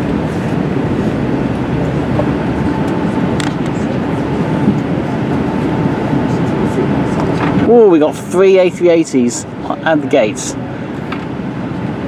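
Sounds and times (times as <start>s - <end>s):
aircraft cabin rumble and hiss: 0.0s - 12.0s
faint steady whine: 0.0s - 12.0s.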